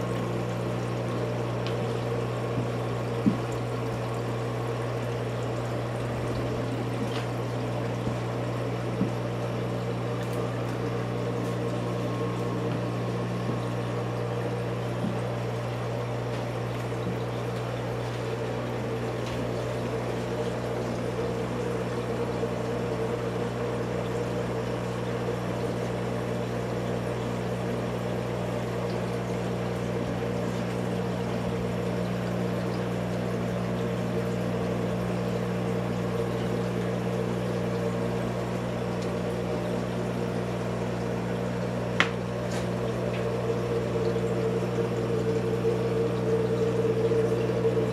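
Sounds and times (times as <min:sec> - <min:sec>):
flowing trickling water: 0:00.0 - 0:47.9
water pumps humming: 0:00.0 - 0:47.9.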